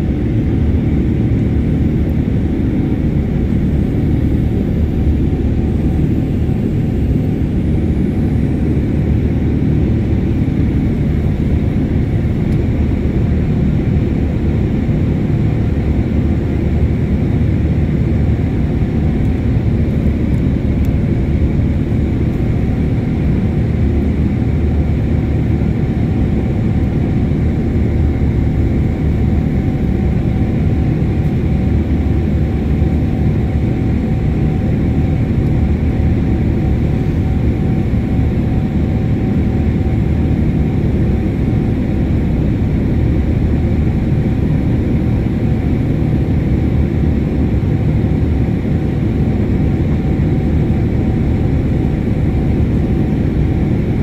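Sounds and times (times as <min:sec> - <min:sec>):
aircraft cabin engine rush: 0:00.0 - 0:54.0.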